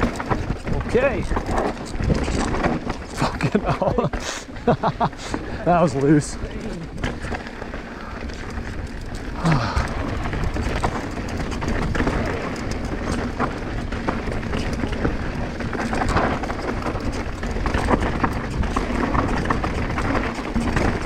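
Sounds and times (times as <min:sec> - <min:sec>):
bike rattling clicks: 0:00.0 - 0:21.0
tyres crunching over stones: 0:00.0 - 0:21.0
wind rumbling over microphone: 0:00.0 - 0:21.0.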